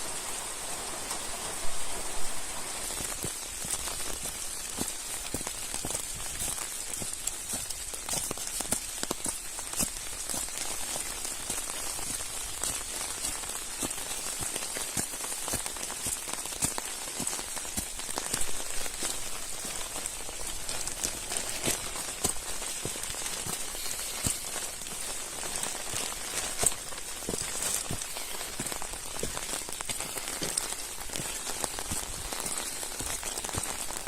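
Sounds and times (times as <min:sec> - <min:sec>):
raindrops ticking: 0:00.0 - 0:34.0
steady rain falling: 0:00.0 - 0:34.0.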